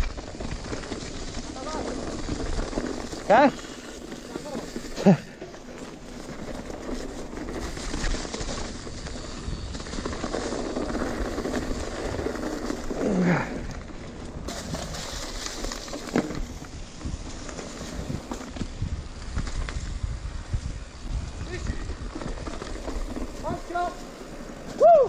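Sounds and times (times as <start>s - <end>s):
bike tyres rumbling on dirt trail: 0.0s - 25.0s.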